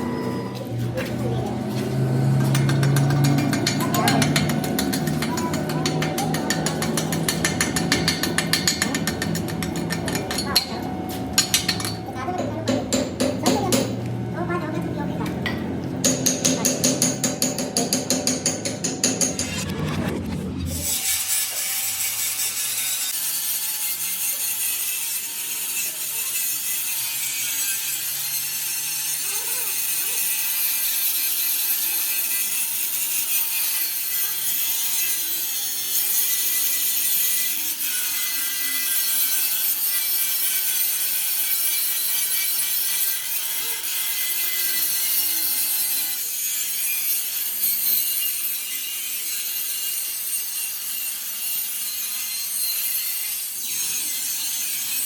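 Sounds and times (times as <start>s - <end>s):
power tool working metal: 0.0s - 55.0s.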